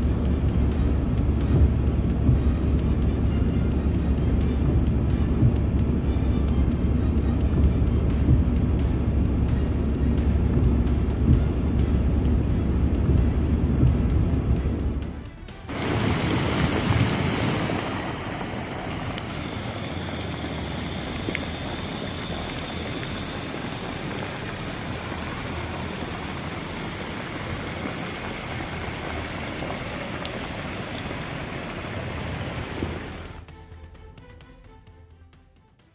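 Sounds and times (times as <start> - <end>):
floodwater rushing: 0.0 - 33.5.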